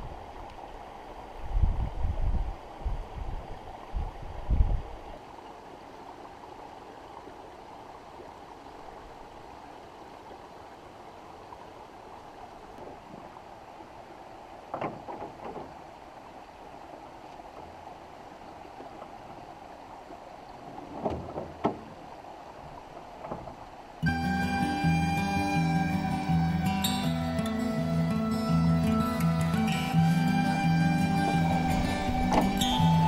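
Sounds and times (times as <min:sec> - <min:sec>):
water trickling through a dam: 0:00.0 - 0:33.0.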